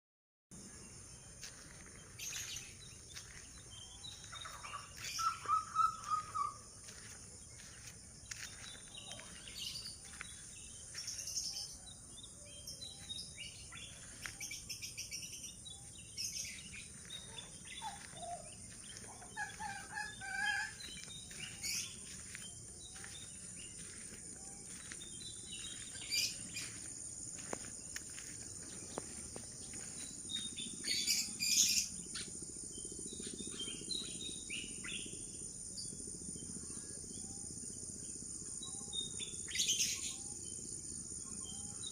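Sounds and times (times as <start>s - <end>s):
wild birds chirping: 0.6s - 41.9s
high-pitched insect drone: 0.7s - 41.9s.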